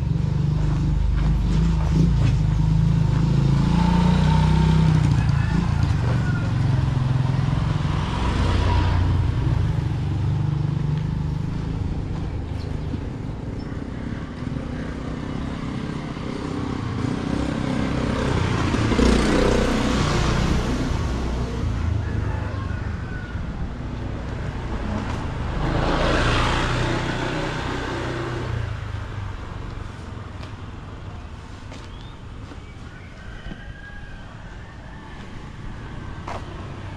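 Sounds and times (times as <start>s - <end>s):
wind and road noise: 0.0s - 36.9s.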